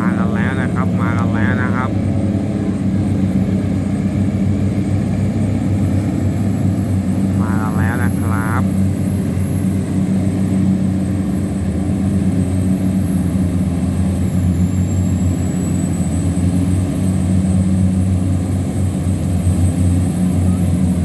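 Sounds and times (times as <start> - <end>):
diesel engine low drone: 0.0 - 21.0.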